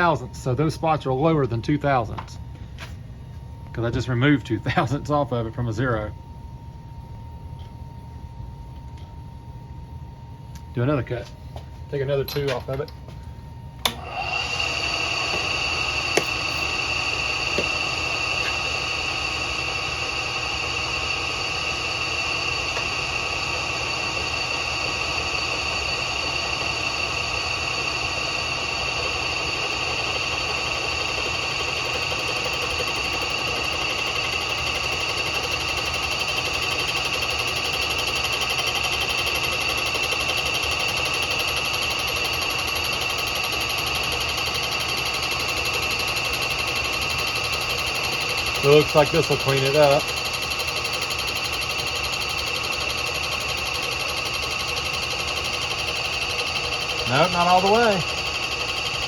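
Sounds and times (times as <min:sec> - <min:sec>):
milling machine whining: 0:00.0 - 0:06.3, 0:08.3 - 0:59.0.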